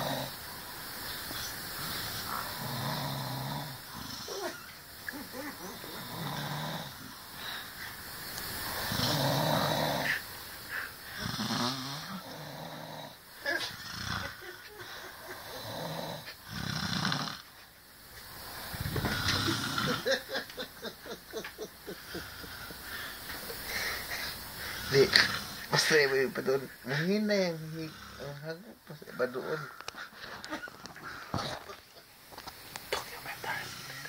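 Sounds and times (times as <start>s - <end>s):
people snoring: 0.0s - 17.6s, 18.2s - 31.8s, 33.0s - 34.0s.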